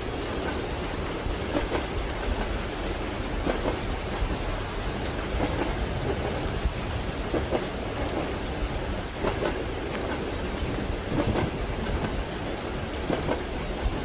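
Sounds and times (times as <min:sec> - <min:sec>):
moving train rumble: 0:00.0 - 0:14.0
rain on a train window: 0:00.0 - 0:14.0.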